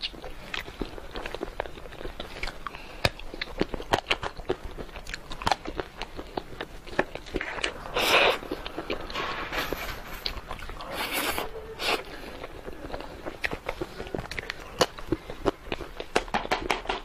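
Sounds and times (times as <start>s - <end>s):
chewing and crunching chocolate: 0.0s - 17.0s.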